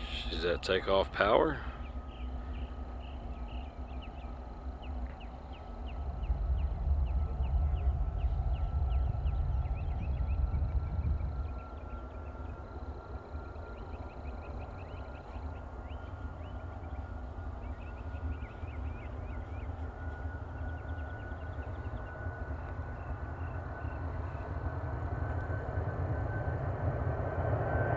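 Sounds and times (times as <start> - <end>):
distant jet engine whine: 0.0 - 27.9.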